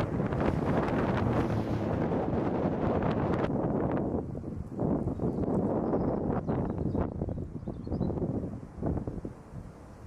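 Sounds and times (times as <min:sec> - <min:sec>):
storm wind buffeting microphone: 0:00.0 - 0:10.0.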